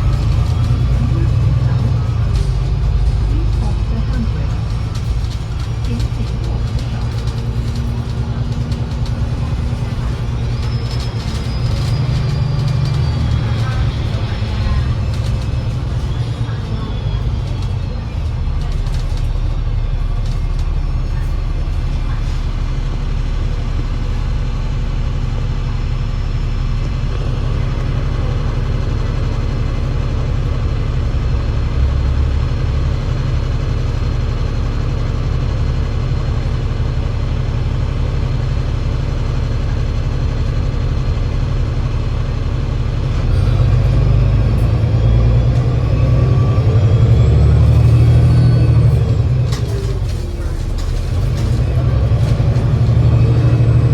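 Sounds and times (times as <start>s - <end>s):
bus engine drone: 0.0s - 53.9s.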